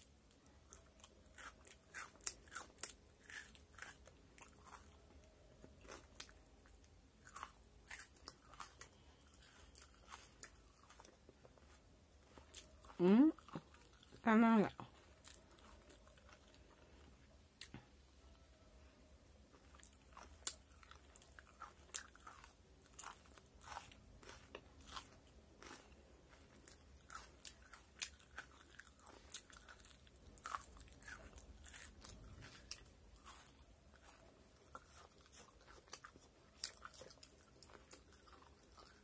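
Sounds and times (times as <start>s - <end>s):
crunching and chewing: 0.0s - 18.4s, 19.3s - 39.0s.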